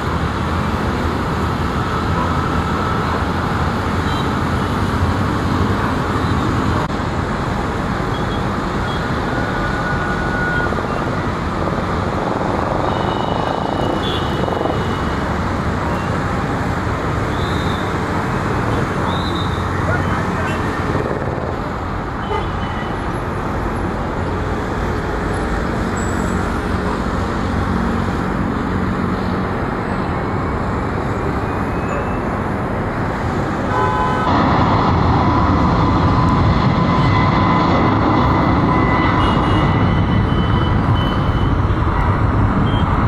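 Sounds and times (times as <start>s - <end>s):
jet engines rumbling: 0.0s - 31.6s, 32.2s - 43.0s
jet engine whine: 0.0s - 43.0s.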